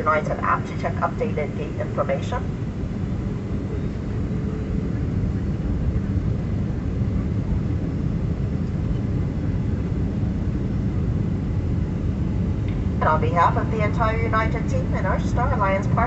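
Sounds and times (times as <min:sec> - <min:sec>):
aircraft engines rumbling in cabin: 0:00.0 - 0:16.0.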